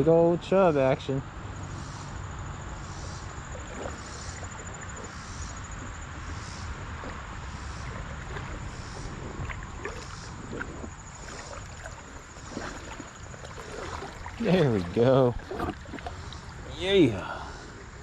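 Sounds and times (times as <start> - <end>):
high insect trill: 0.2 - 18.0
creek water splashing: 1.6 - 18.0.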